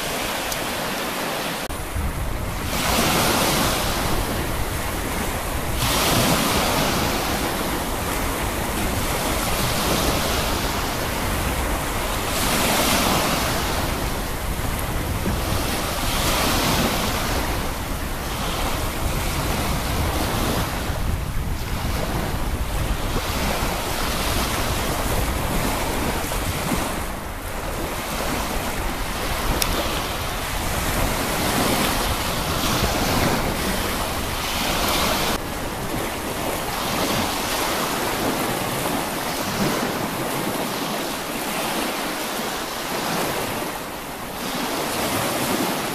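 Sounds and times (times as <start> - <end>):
sea waves washing in: 0.0 - 45.9
wind buffeting microphone: 0.0 - 45.9.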